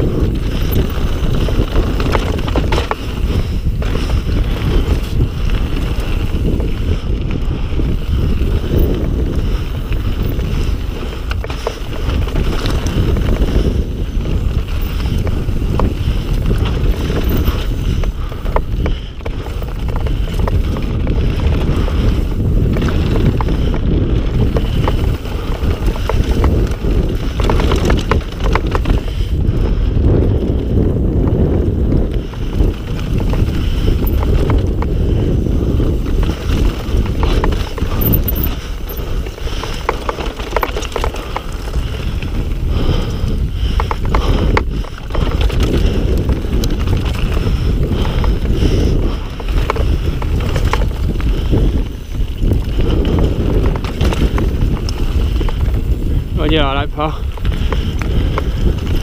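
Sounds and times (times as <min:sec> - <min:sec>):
bike clicking and rattling: 0:00.0 - 0:59.0
bike tyres rumbling: 0:00.0 - 0:59.0
wind buffeting microphone: 0:00.0 - 0:59.0.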